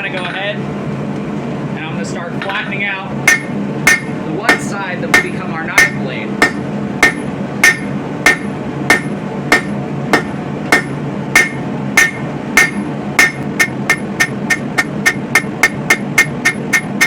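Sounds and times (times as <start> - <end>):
steady low noise: 0.0 - 17.0
hammer ringing on anvil: 3.3 - 17.0.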